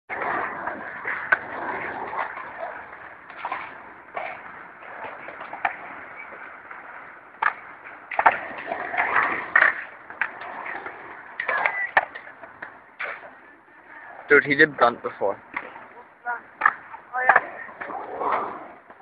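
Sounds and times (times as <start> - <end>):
skateboard clacking on concrete: 0.1 - 19.0
skateboard wheels rolling on concrete: 0.1 - 19.0.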